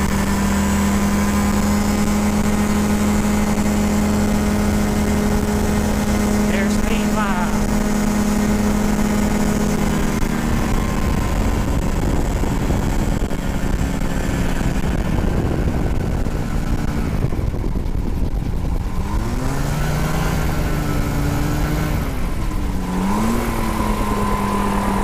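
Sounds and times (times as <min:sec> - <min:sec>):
gyroplane engine running: 0:00.0 - 0:25.0
wind noise: 0:00.0 - 0:25.0.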